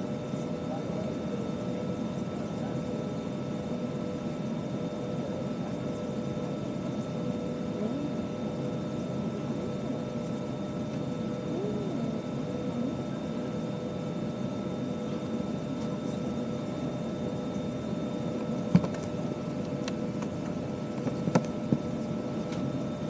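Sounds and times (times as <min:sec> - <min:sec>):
air conditioning blowing: 0:00.0 - 0:23.0.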